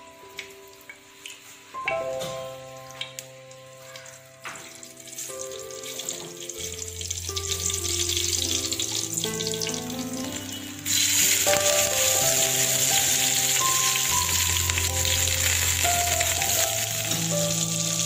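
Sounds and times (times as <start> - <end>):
hot oil sizzling in a frying pan: 0.0 - 18.0
soft instrumental music: 0.0 - 18.0.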